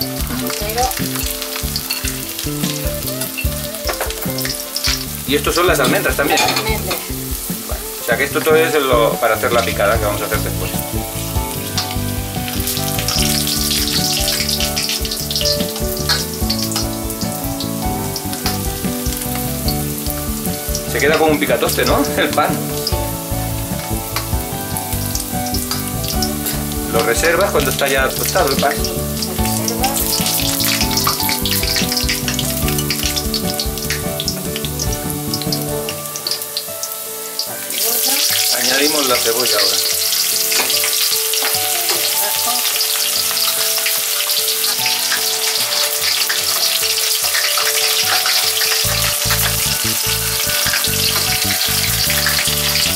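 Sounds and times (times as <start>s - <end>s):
background music: 0.0s - 52.9s
bread and garlic sizzling in oil: 0.0s - 52.9s
sharp crackles: 0.0s - 52.9s.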